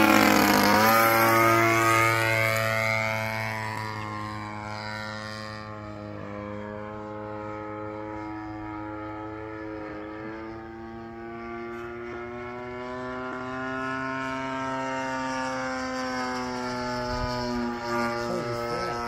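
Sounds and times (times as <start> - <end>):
model airplane engine droning: 0.0 - 19.0.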